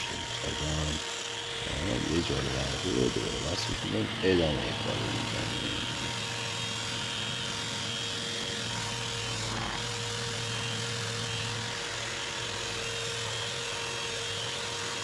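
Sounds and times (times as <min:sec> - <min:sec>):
floor sander running: 0:00.0 - 0:15.0.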